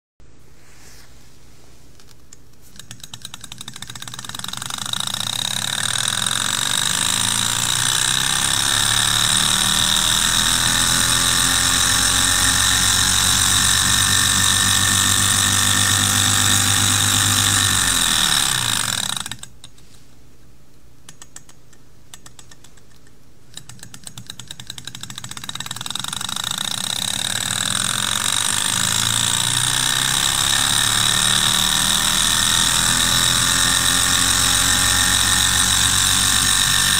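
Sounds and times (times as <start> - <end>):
model engine running and clicking: 2.7 - 19.7, 21.1 - 36.9.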